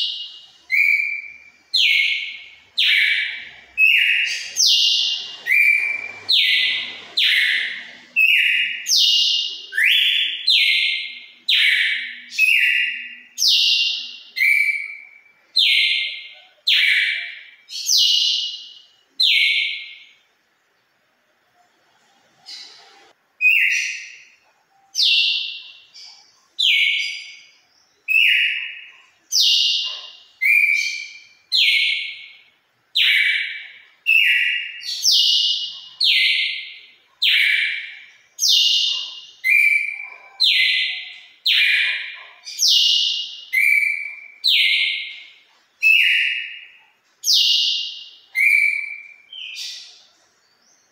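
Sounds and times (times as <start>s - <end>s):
bird singing whistled notes: 0.0s - 20.3s, 23.4s - 50.9s.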